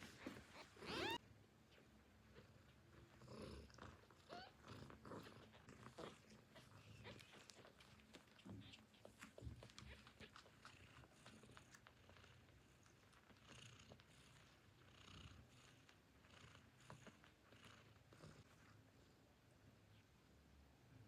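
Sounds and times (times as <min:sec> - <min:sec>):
cat purring: 0:00.0 - 0:20.4.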